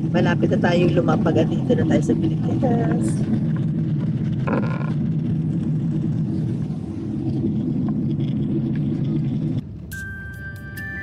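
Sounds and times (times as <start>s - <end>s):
airliner cabin rumble: 0.0s - 9.9s.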